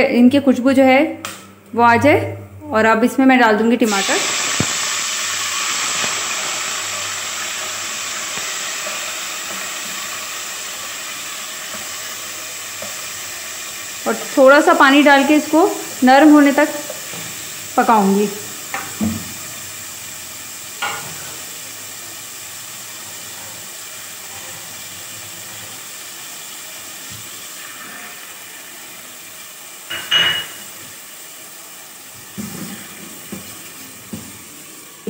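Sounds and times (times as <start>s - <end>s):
tomatoes and spices sizzling in oil: 3.1s - 35.0s.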